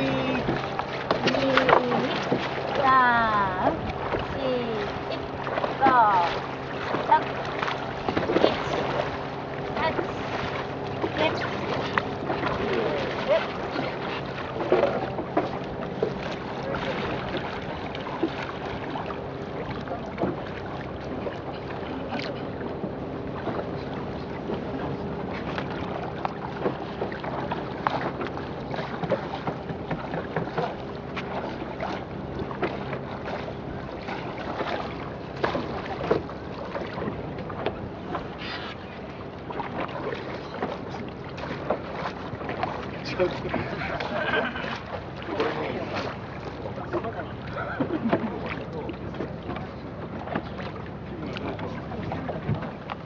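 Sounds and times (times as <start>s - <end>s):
paddle strokes splashing in water: 0.0s - 53.0s
rush of water: 0.0s - 53.0s.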